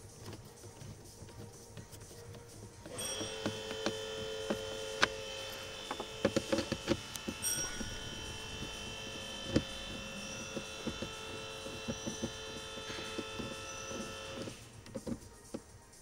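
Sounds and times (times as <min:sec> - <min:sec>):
steady electrical hum: 0:00.0 - 0:16.0
clicks of plastic trim and screwdriver: 0:00.2 - 0:15.7.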